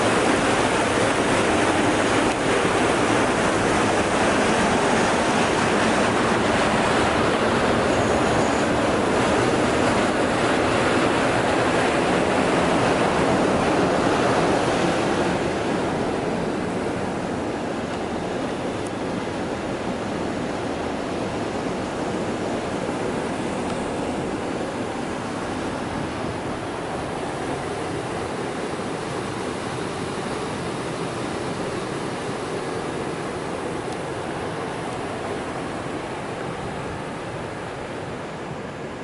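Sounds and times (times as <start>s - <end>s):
rushing churning water: 0.0s - 39.0s.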